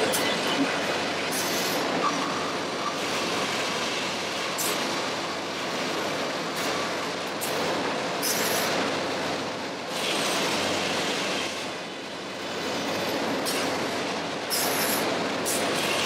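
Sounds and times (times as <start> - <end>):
heavy machinery running: 0.0 - 16.0.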